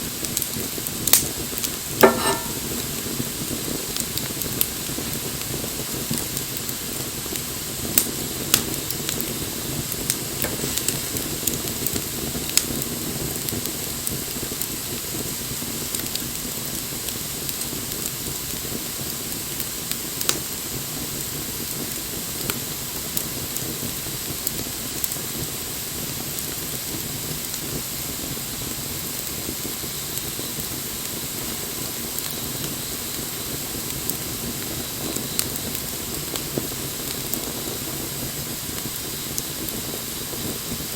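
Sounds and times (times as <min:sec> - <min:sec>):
wood fire crackling and popping: 0:00.1 - 0:40.9.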